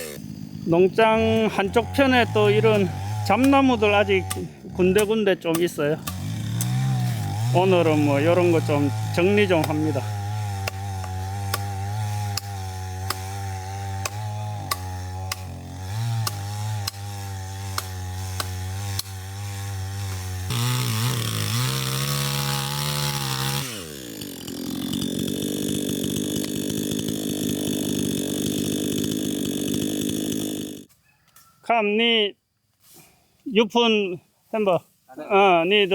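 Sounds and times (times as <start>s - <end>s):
chainsaw running and revving: 0.0s - 30.9s.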